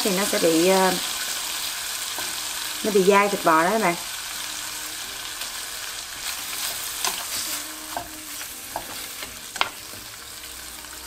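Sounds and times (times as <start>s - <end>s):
meat sizzling in frying pan: 0.0s - 11.0s.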